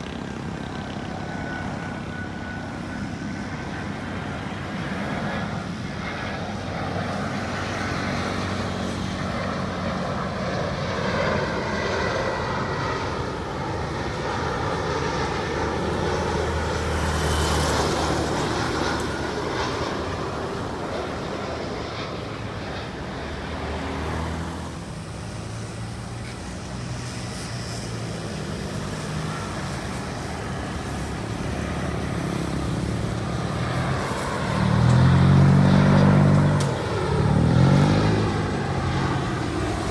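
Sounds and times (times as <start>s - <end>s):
jet airliner engine whine: 0.0s - 39.9s
road traffic rumble: 0.0s - 39.9s.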